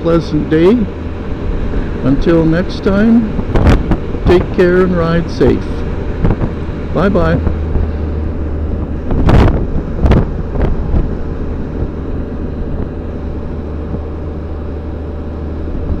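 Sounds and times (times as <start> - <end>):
vehicle engine drone: 0.0 - 16.0
wind buffeting microphone: 0.9 - 16.0.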